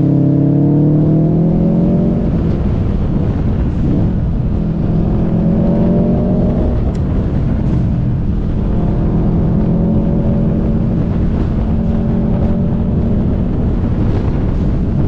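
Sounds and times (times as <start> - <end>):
car engine running: 0.0 - 15.0
road and wind rumble: 0.0 - 15.0.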